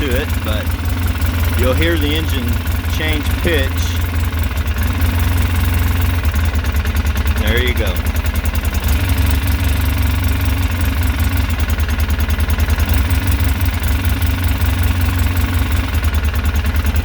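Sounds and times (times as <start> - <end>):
engine idling with pulsing beat: 0.0 - 17.0.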